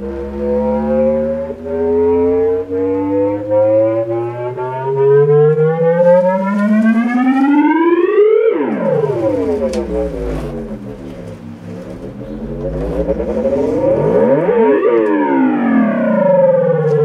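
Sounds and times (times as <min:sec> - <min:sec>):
test tone sweep through subwoofer: 0:00.0 - 0:17.0.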